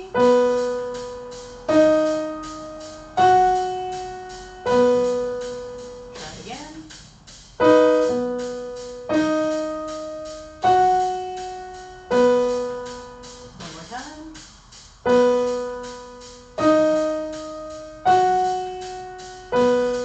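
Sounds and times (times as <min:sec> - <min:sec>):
piano playing single notes and chords: 0:00.0 - 0:20.0.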